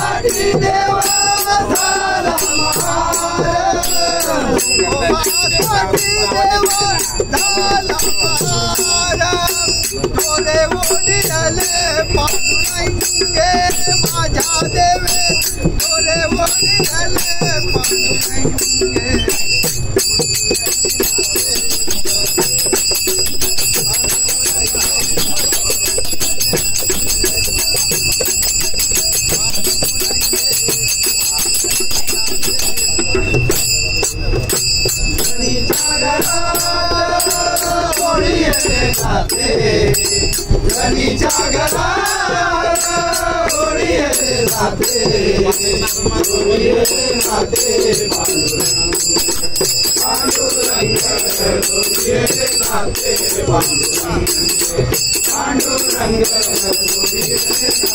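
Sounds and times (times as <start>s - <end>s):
hand cymbals struck fast: 0.0s - 57.9s
small hand drums: 0.0s - 57.9s
voices singing: 0.0s - 57.9s.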